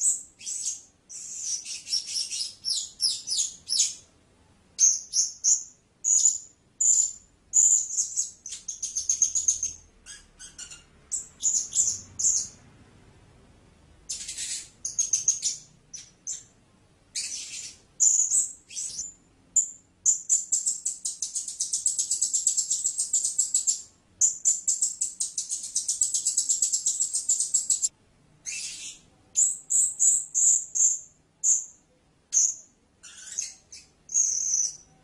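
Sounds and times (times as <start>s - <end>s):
parrot calling and chattering: 0.0s - 4.0s, 4.8s - 12.6s, 14.1s - 16.5s, 17.1s - 34.9s.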